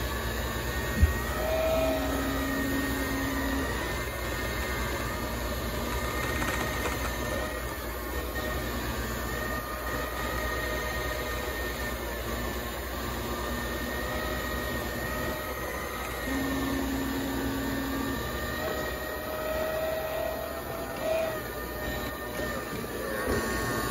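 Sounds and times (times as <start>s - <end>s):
floor scrubber motor hum: 0.0s - 23.9s.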